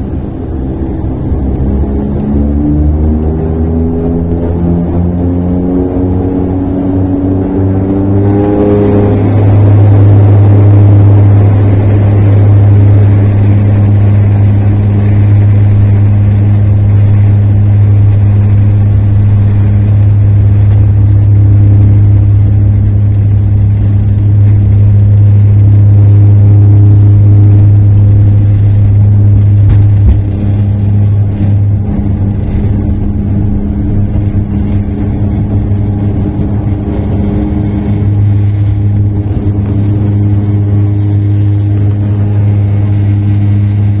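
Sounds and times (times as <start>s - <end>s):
aircraft engines in cabin: 0.0s - 44.0s.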